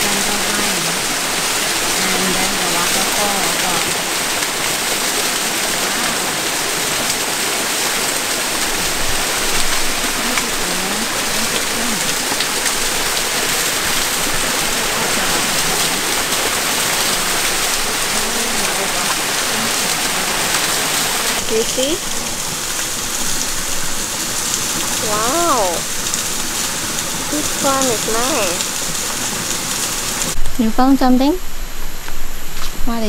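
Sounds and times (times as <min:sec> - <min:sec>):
waterfall splashing on rock: 0:00.0 - 0:30.6.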